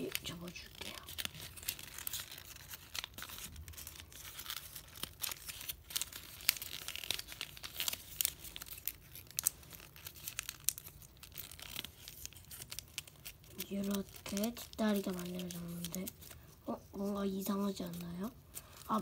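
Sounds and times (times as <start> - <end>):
paper crinkling and rustling: 0.0 - 19.0.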